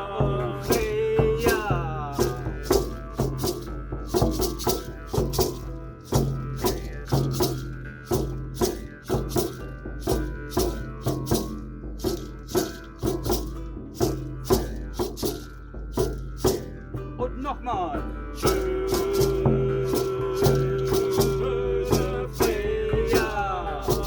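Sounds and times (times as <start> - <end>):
acoustic folk instruments: 0.0 - 24.0
held low note: 0.0 - 24.0
rattle shaken in a beat: 0.6 - 16.9, 18.4 - 24.0.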